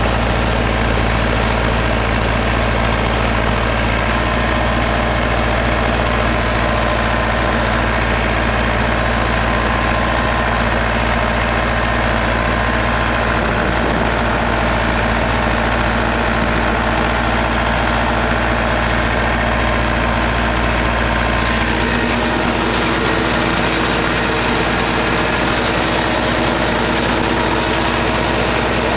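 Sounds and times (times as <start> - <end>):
tractor diesel engine rumbling: 0.0 - 28.9.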